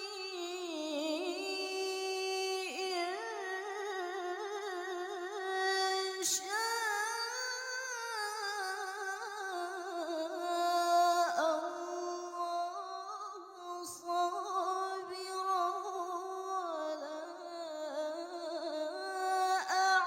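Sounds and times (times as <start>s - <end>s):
woman chanting recitation: 0.0s - 20.0s.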